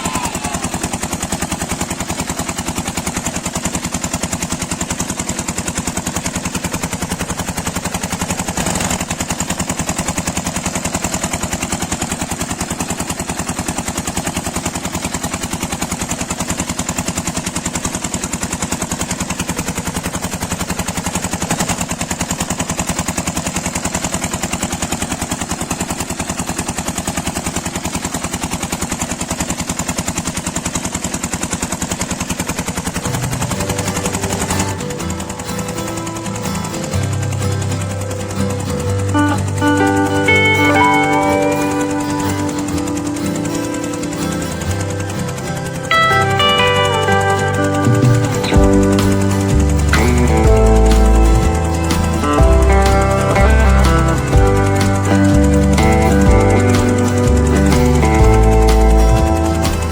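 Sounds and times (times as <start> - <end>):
miniature diesel engine running: 0.0 - 59.9.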